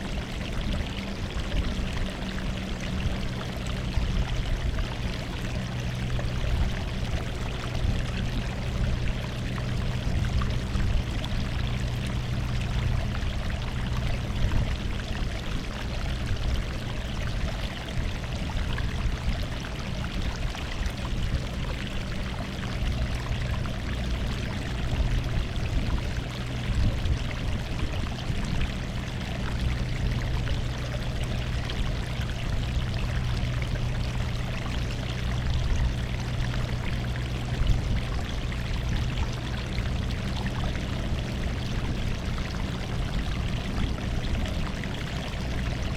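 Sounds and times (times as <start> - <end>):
sea water washing on shore: 0.0 - 45.9
steady low hum: 0.0 - 45.9.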